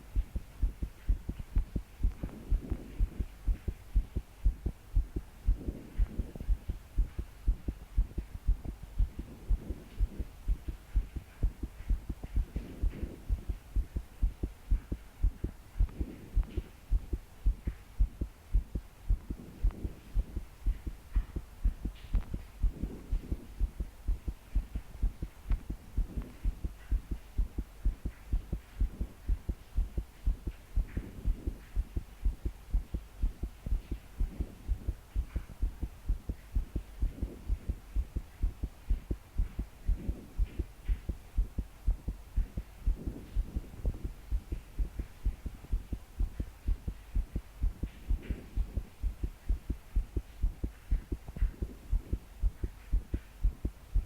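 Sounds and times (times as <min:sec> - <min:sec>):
fast pounding heartbeat: 0:00.0 - 0:54.0.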